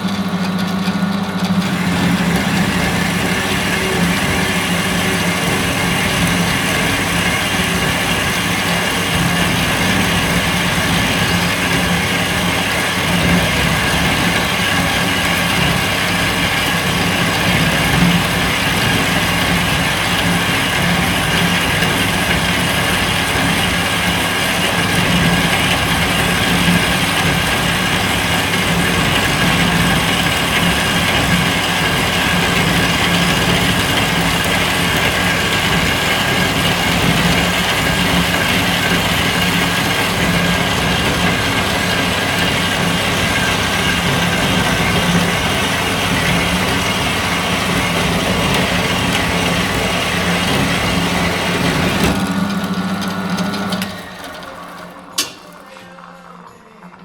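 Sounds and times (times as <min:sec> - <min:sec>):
bandsaw cutting steel: 0:01.5 - 0:56.0.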